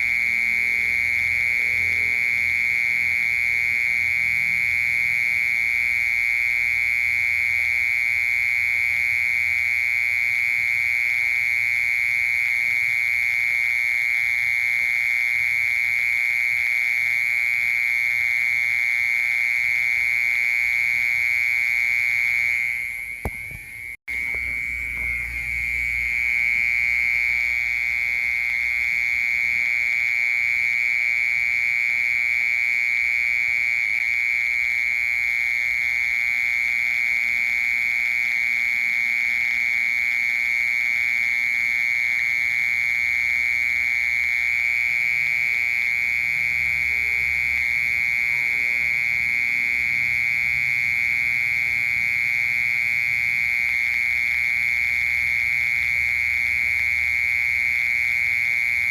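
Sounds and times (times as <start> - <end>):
cricket trilling: 0.0 - 58.9.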